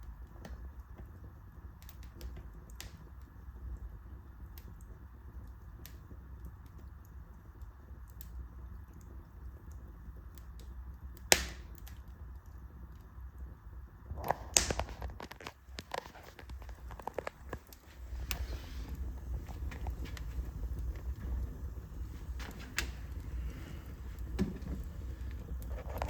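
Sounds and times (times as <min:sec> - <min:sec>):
fire popping: 0:00.0 - 0:26.0
wood fire crackling: 0:00.0 - 0:26.0.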